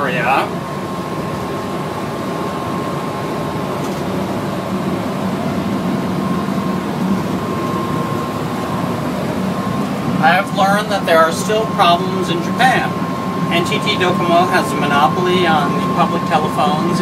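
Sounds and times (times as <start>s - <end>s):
faint steady whine: 0.0s - 17.0s
train low rumble: 0.0s - 17.0s.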